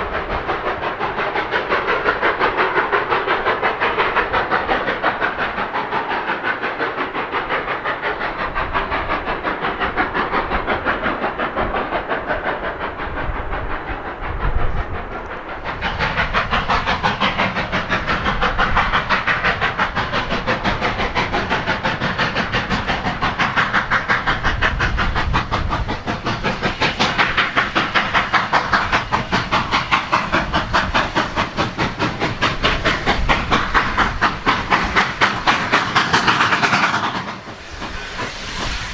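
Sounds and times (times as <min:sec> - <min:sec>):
steady steam hiss: 0:00.0 - 0:38.9
steam locomotive chuffing: 0:00.0 - 0:38.9.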